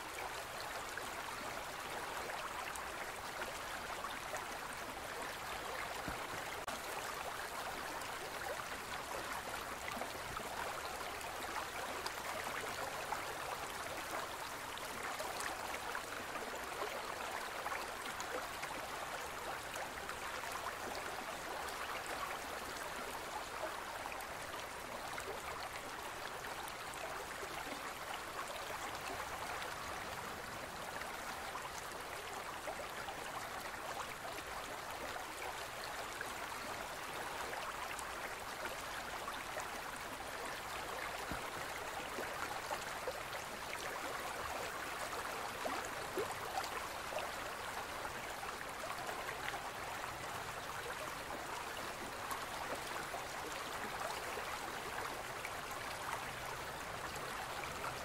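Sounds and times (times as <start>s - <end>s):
gentle stream running: 0.0s - 58.0s.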